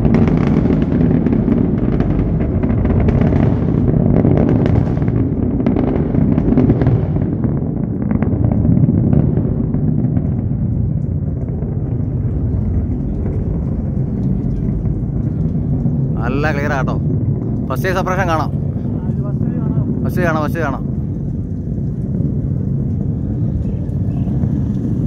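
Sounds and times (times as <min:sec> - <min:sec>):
deep rocket rumble: 0:00.0 - 0:25.0
rocket motors crackling: 0:00.0 - 0:25.0.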